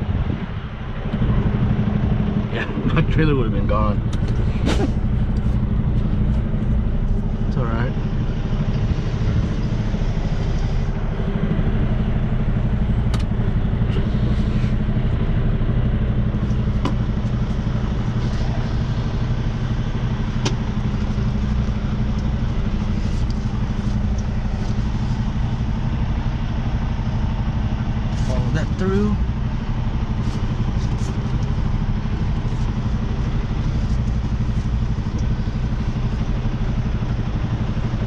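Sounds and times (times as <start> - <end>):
diesel truck engine idling: 0.0 - 38.0.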